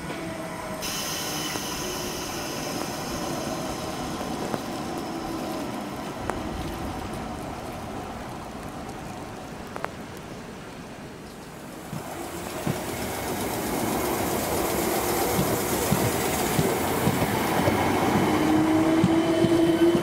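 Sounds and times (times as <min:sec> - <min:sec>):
train running noise and hiss: 0:00.0 - 0:20.0.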